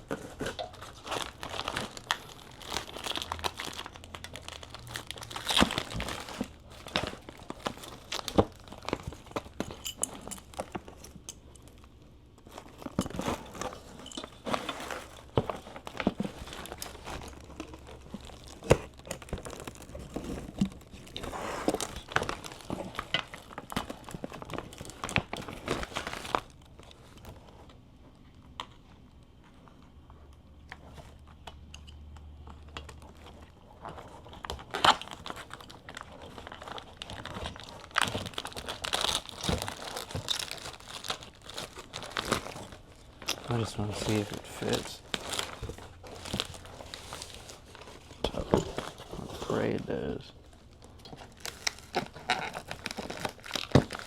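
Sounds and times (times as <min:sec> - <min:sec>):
packaging crinkling and tearing: 0:00.0 - 0:31.5, 0:32.1 - 0:54.0.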